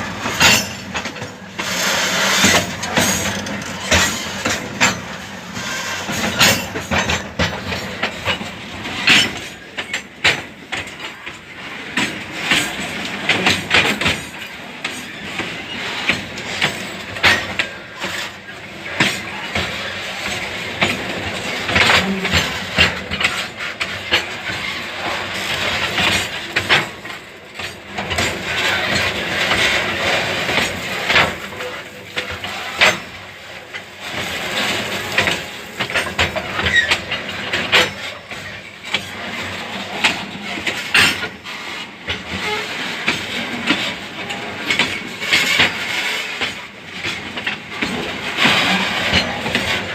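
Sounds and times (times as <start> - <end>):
model train running noise: 0.0 - 49.9
model train wheels clicking: 0.0 - 49.9.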